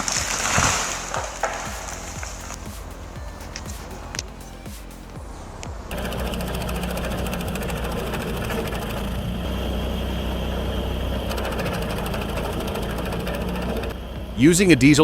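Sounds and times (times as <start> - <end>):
diesel engine clattering: 0.0 - 15.0.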